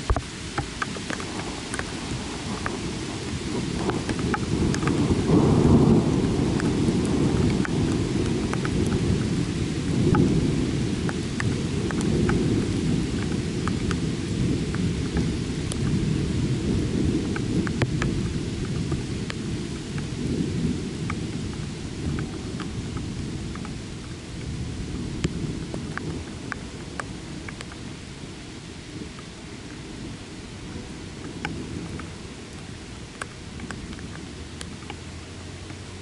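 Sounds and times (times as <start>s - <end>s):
raindrops ticking: 0.0s - 36.0s
thunder rumbling: 0.0s - 36.0s.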